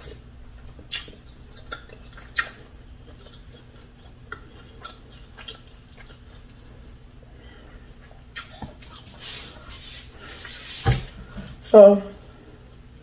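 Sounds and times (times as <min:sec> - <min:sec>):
person chewing food: 0:00.0 - 0:10.6.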